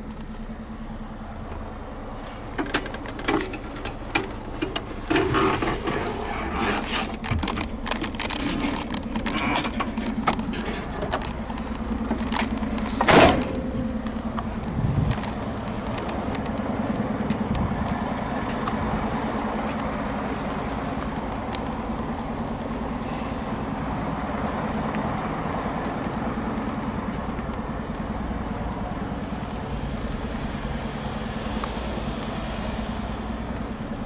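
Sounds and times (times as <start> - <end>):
truck diesel engine idling: 0.0 - 34.0.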